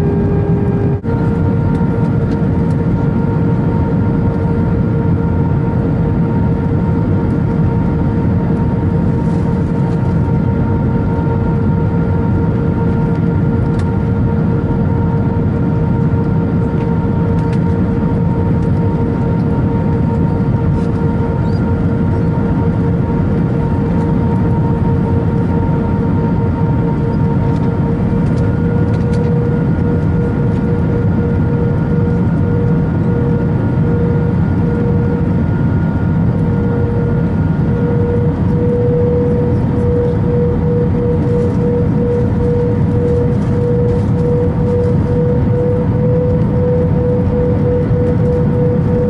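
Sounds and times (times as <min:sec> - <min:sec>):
airflow and jet engine roar: 0:00.0 - 0:49.0.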